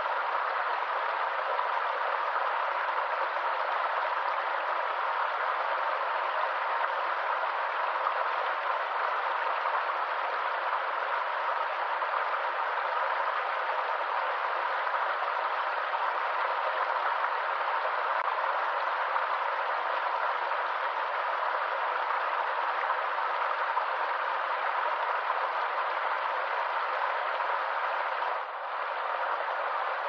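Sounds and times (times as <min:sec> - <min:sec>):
forest stream running: 0:00.0 - 0:30.0.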